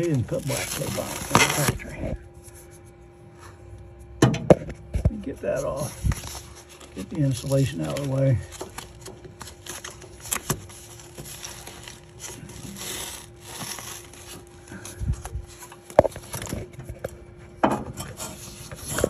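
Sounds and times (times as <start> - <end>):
insulation rustling and scraping: 0.0 - 19.0.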